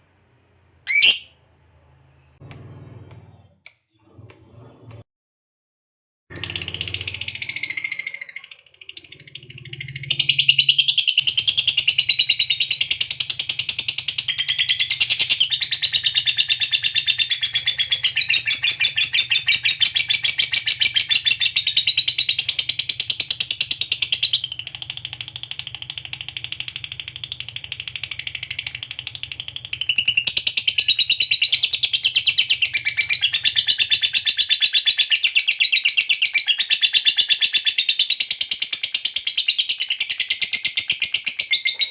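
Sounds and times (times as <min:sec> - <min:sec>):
lovebird high-pitched chatter: 0:00.9 - 0:01.3, 0:06.3 - 0:41.9.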